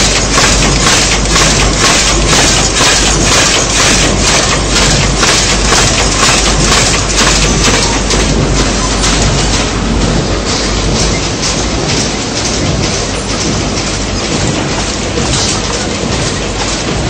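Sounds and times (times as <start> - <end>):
folding machine clattering: 0.0 - 17.0.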